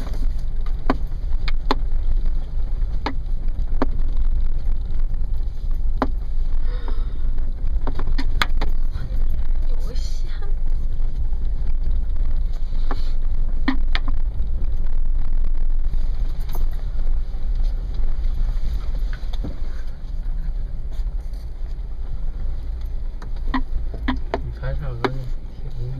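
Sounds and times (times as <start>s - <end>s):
off-road engines rumbling: 0.0s - 25.9s.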